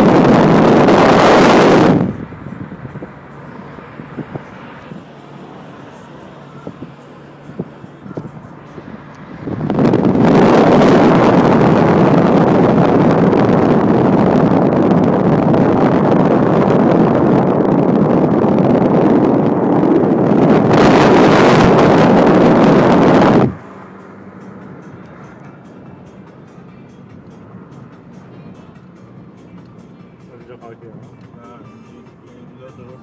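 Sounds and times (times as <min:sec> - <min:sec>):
car cabin hum: 0:00.0 - 0:31.5
wind and road noise: 0:00.0 - 0:33.0.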